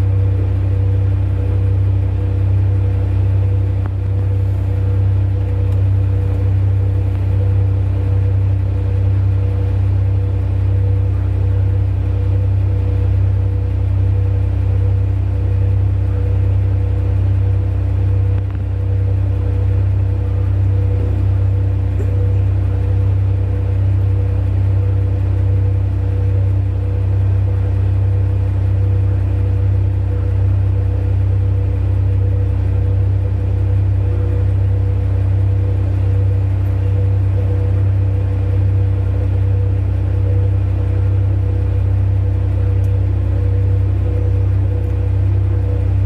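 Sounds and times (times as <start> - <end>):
large diesel engines droning: 0.0 - 46.0.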